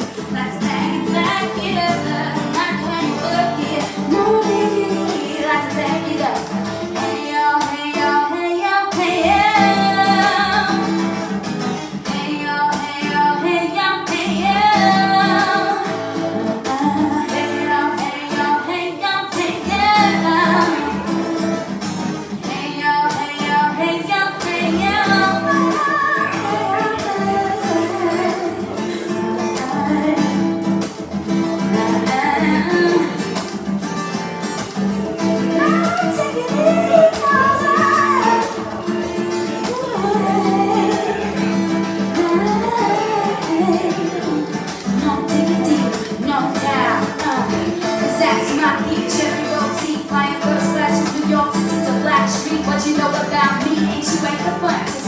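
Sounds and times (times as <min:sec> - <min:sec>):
person singing: 0:00.0 - 0:11.3, 0:12.0 - 0:21.7, 0:22.4 - 0:33.6, 0:35.1 - 0:55.0
acoustic guitar chords: 0:00.0 - 0:55.0.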